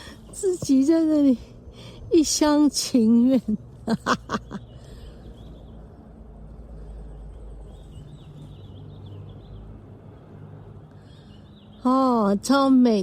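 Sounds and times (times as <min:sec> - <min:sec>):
faint bird song: 0:00.0 - 0:13.0
low rumble outdoors: 0:00.0 - 0:13.0.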